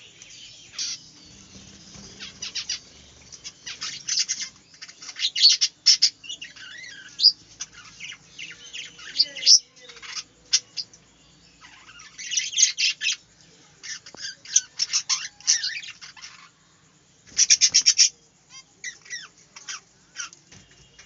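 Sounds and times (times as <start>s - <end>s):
budgerigars chirping and chattering: 0.0s - 16.6s, 17.3s - 21.0s.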